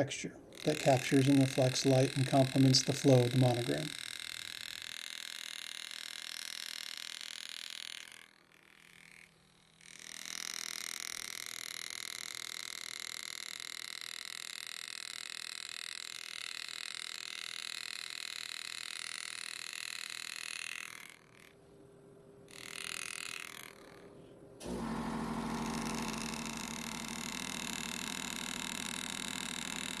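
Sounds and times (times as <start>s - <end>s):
engraving handpiece buzzing: 0.0s - 30.0s.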